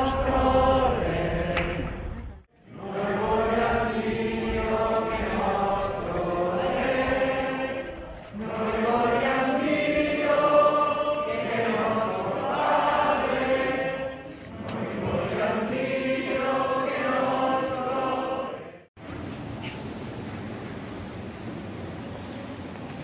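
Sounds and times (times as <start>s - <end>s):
group singing a hymn: 0.0s - 18.9s.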